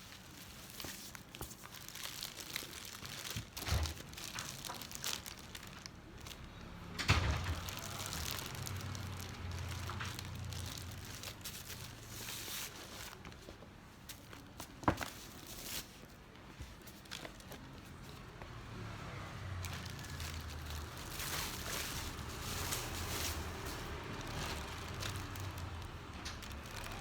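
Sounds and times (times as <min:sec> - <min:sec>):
bag wrapping rustling: 0:00.0 - 0:06.5, 0:07.4 - 0:18.4, 0:19.5 - 0:27.0.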